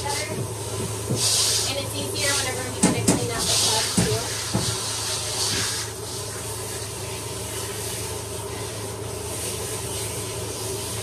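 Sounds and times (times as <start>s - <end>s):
water spraying from nozzle: 0.0s - 11.0s.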